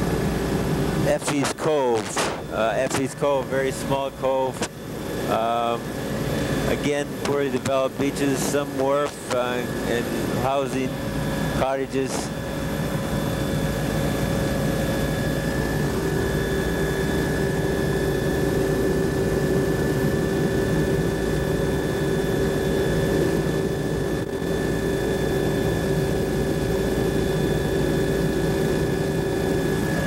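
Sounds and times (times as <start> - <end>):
aircraft engine drone: 0.0 - 30.0
faint high whine: 0.1 - 30.0.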